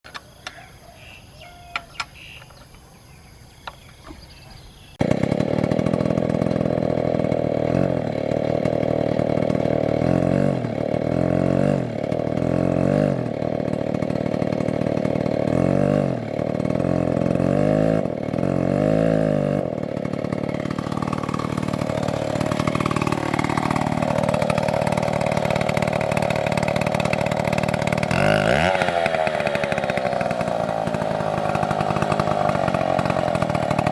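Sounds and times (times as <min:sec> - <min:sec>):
chainsaw revving: 0:04.3 - 0:33.9.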